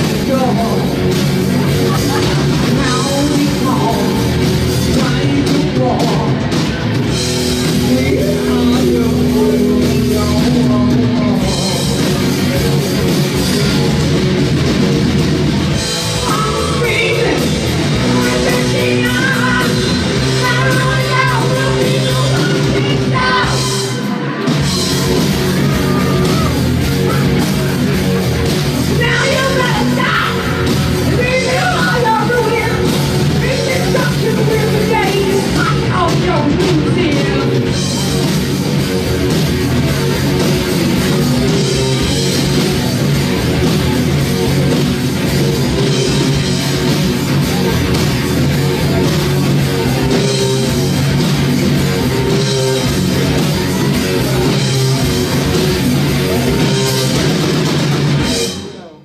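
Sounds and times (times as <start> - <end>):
electric guitars: 0.0 - 58.8
drum kit: 0.0 - 59.0.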